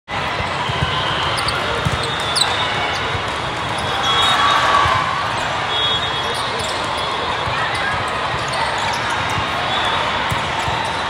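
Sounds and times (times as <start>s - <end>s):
sneaker squeaks: 0.6s - 11.0s.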